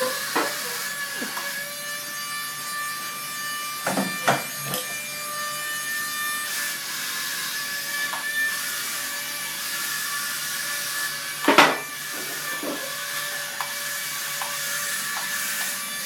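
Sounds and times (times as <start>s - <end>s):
toy fan motor whirring: 0.0s - 16.0s.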